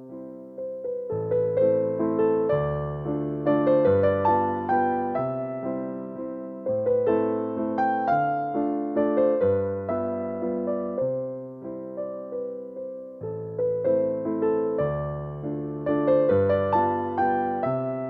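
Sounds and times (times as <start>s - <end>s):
slow gentle piano chords: 0.0s - 18.0s.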